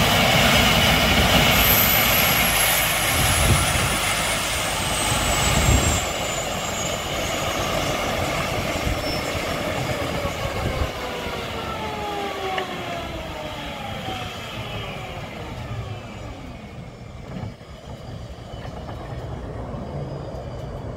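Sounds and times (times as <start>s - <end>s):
helicopter turbine whine spooling down: 0.0s - 20.9s.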